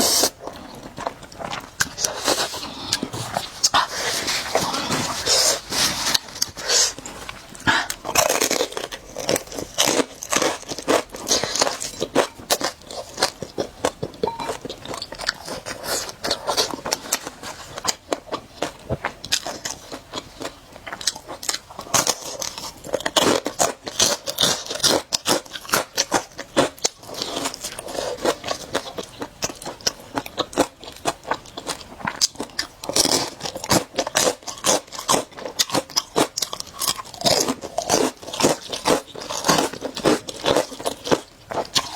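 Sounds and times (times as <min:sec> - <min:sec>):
person chewing noodles: 0:00.0 - 0:41.9.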